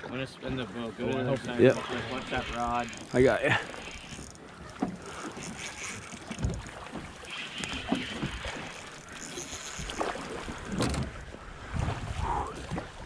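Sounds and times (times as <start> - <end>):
water moving against boat hull: 0.0 - 13.0
oars knocking on hull: 0.5 - 12.0.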